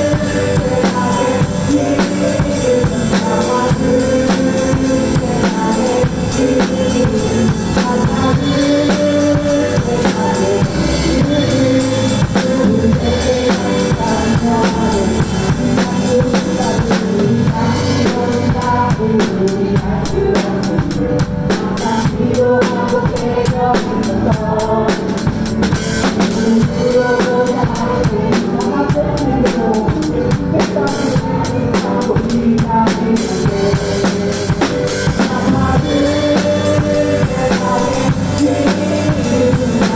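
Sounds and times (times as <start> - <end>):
drum kit playing: 0.0 - 39.9
worship song backing track: 0.0 - 39.9.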